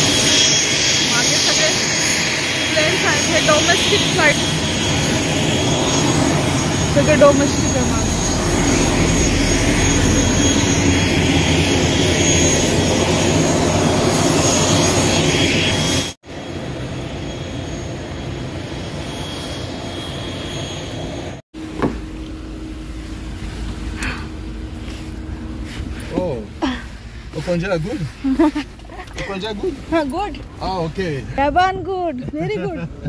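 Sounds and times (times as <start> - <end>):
aircraft turbine engines running: 0.0 - 33.0
low hum: 0.0 - 33.0
quieter engine noise: 2.5 - 33.0.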